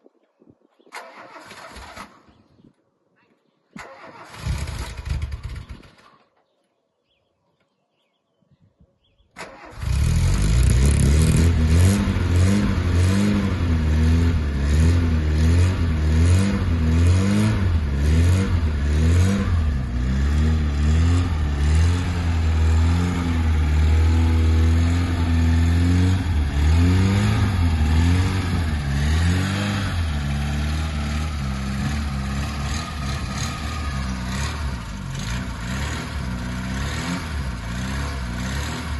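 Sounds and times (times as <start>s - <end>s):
car engine starting and revving: 0.9s - 2.2s, 3.8s - 6.1s, 9.4s - 38.9s.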